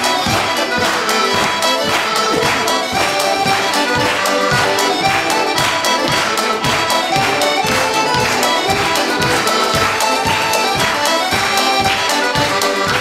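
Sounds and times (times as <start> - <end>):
piano accordion dance tune: 0.0 - 13.0.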